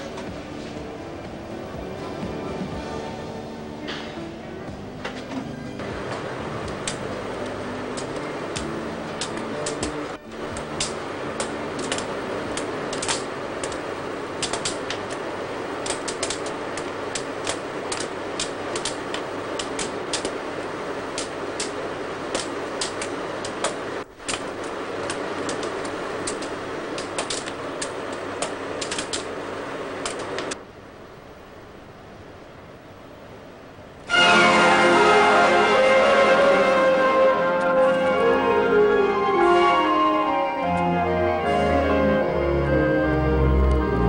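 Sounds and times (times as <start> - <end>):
machine hum: 0.0 - 44.0.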